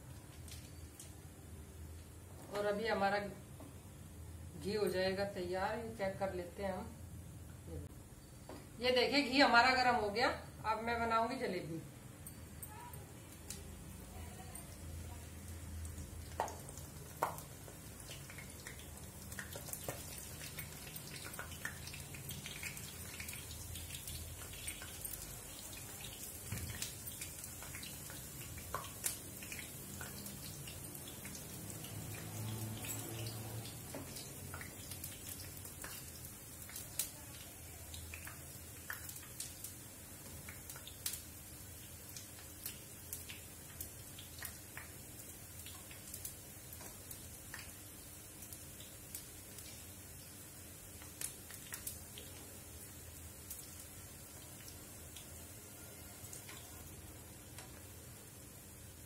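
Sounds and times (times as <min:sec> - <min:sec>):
batter sizzling and popping in oil: 0:00.0 - 0:59.0.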